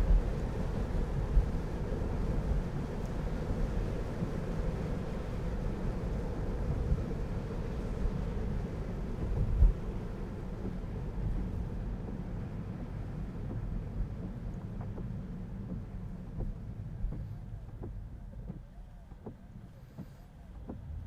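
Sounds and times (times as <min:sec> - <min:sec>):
road and tyre noise in car cabin: 0:00.0 - 0:21.0.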